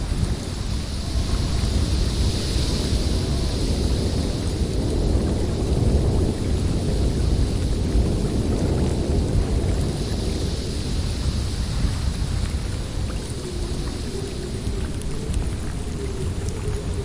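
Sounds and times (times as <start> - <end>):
hiss of blown snow: 0.0 - 15.3
blizzard wind rumbling: 0.0 - 17.0
faint low wavering howl: 0.0 - 17.0.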